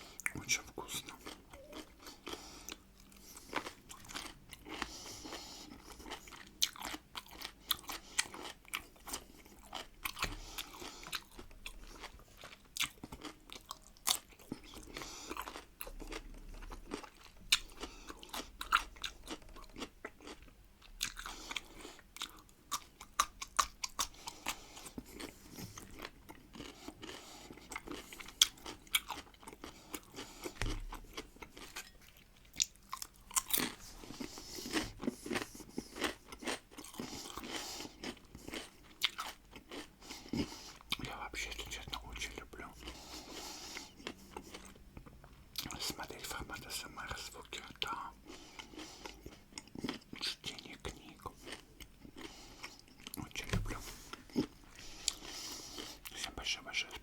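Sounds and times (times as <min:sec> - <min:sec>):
crunching pickles: 0:00.2 - 0:57.0.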